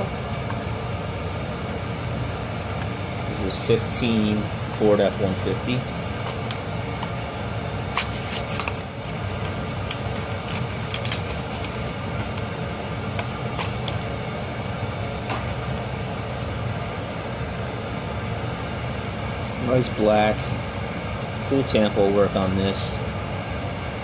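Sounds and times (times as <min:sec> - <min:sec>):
air conditioner hum: 0:00.0 - 0:24.0.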